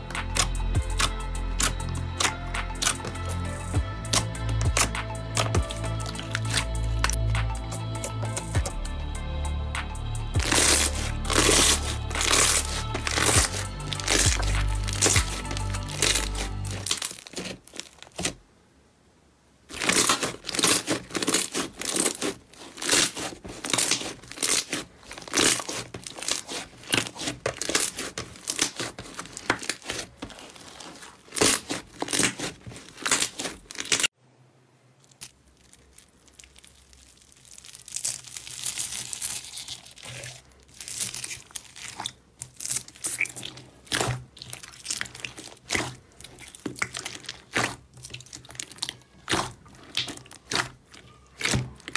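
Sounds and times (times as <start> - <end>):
slime crackling and squelching: 0.0 - 8.8, 9.8 - 18.4, 19.7 - 34.2, 35.0 - 51.9.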